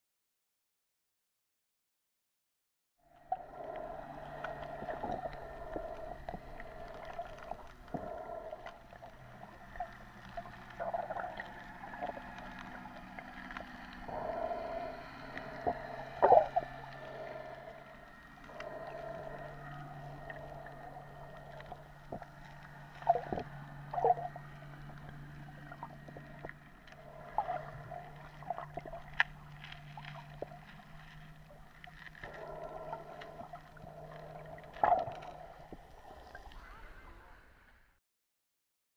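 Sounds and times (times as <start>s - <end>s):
underwater low hum: 3.0s - 38.0s
higher drone: 3.2s - 37.4s.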